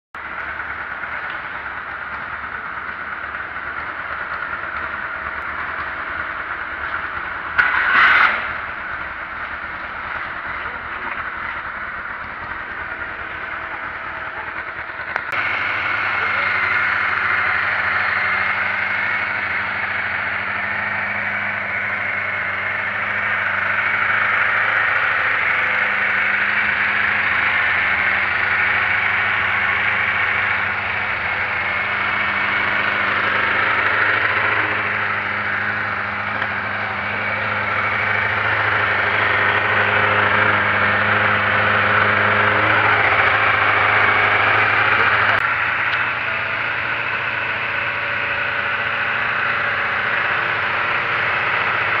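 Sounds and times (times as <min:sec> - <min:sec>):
motorcycle engine idling: 0:00.2 - 0:52.0.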